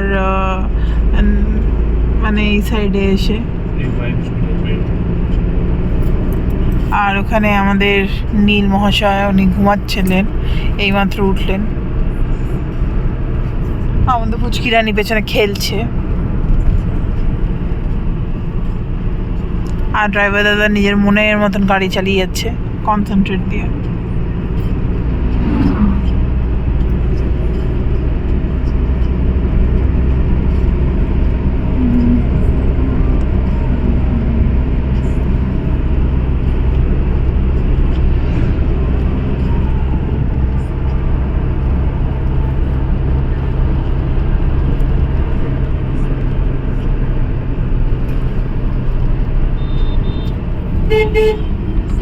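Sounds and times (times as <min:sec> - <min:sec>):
car road noise from inside: 0:00.0 - 0:52.0.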